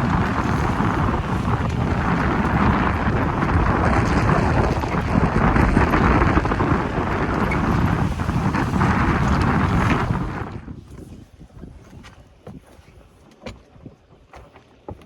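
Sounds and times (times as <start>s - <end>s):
strong wind buffeting microphone: 0.0s - 12.6s.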